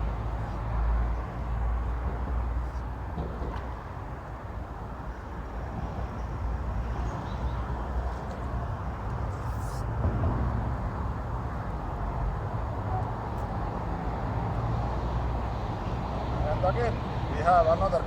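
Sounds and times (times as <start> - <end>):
low traffic rumble with hiss: 0.0 - 18.0.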